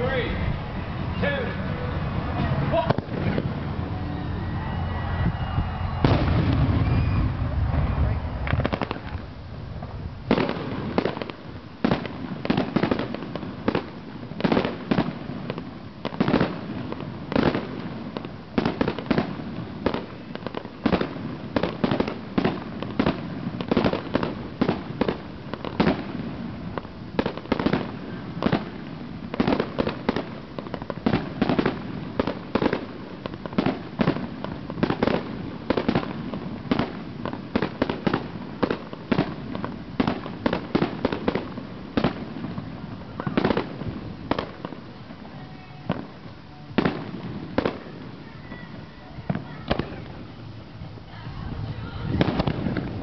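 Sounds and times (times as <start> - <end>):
aerial firework bursts: 0.0 - 44.8
firework bangs: 0.0 - 53.0.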